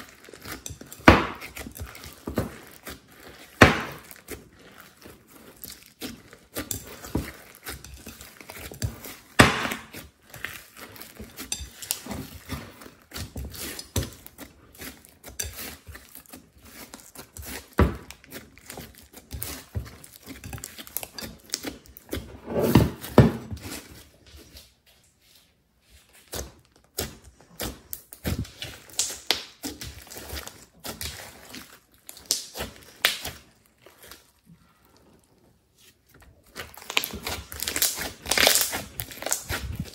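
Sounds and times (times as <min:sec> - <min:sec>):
slime squelching and popping: 0:00.0 - 0:22.4, 0:26.3 - 0:39.9.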